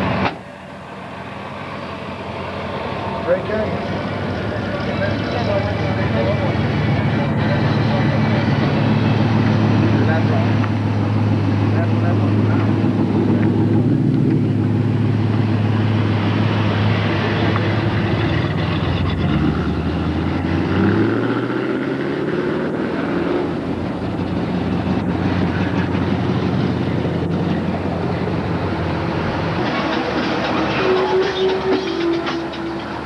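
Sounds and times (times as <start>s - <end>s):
large engine running: 0.0s - 33.0s.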